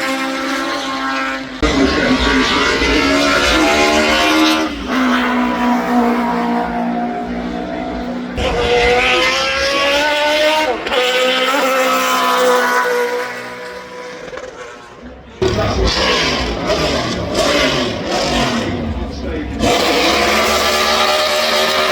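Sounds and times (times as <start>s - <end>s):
car engine accelerating hard: 0.0s - 21.9s.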